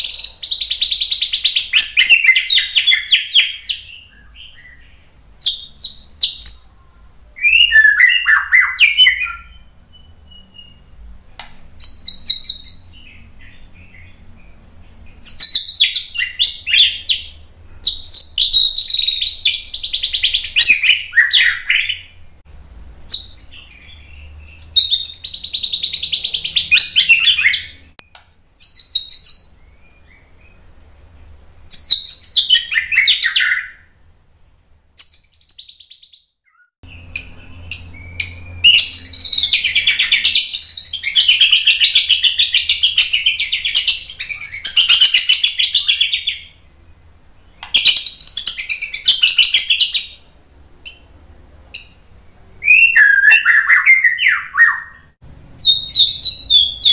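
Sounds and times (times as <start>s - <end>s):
bird singing trills and whistles: 0.0s - 11.0s, 11.8s - 22.2s, 23.1s - 30.6s, 31.7s - 34.0s, 35.0s - 46.6s, 47.4s - 50.2s, 50.8s - 56.9s.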